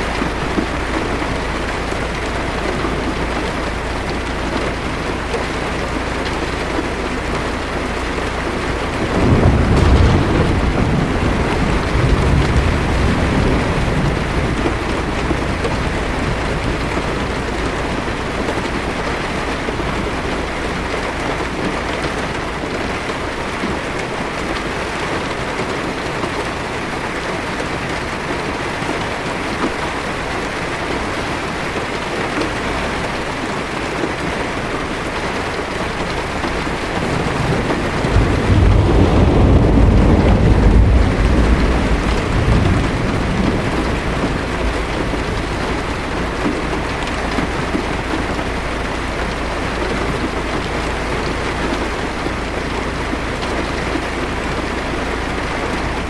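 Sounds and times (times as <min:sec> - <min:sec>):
thunder rolling: 0:00.0 - 0:31.8, 0:32.8 - 0:56.0
heavy rain on a car: 0:00.0 - 0:56.0.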